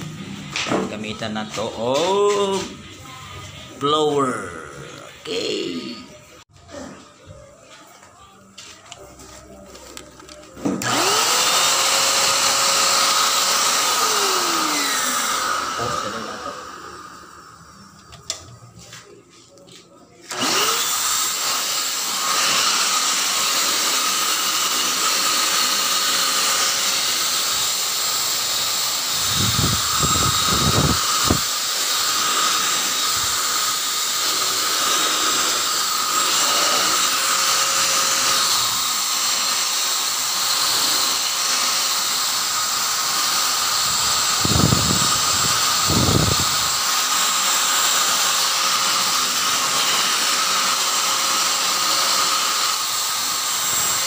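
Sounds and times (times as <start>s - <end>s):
electric blower running: 0.0s - 6.0s, 10.2s - 18.5s, 20.3s - 54.0s.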